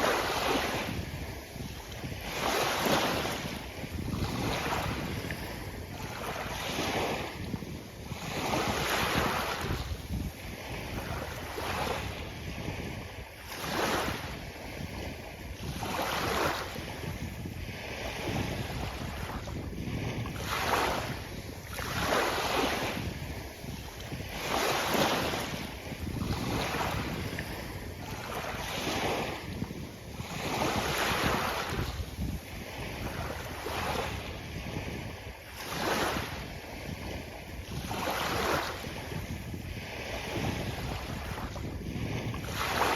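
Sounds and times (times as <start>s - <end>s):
sea surf washing onto beach: 0.0s - 42.9s
wind buffeting microphone: 0.0s - 42.9s.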